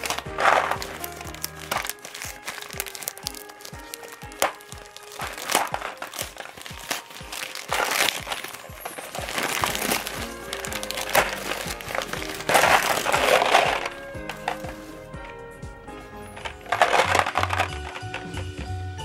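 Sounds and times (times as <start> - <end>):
wrapping paper crinkling and tearing: 0.0 - 18.0
background music: 0.0 - 19.0.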